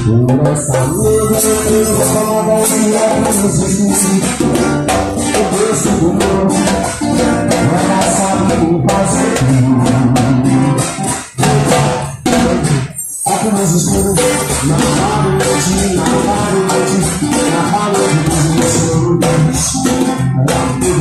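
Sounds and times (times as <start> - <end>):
shaker and tambourine: 0.0 - 10.2, 10.8 - 21.0
band music: 0.0 - 21.0
guitar: 0.0 - 21.0.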